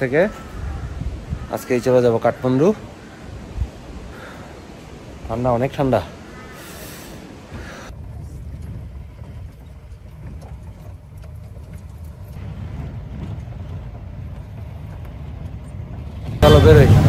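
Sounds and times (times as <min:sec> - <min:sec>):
engine and road rumble: 0:02.7 - 0:17.0.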